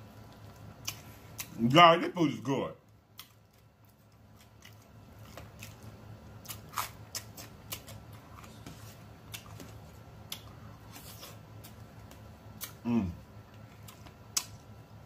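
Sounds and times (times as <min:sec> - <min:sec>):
low steady hum: 0:00.0 - 0:15.0
person chewing and lip smacking: 0:00.2 - 0:01.6, 0:03.1 - 0:12.8, 0:13.5 - 0:14.7.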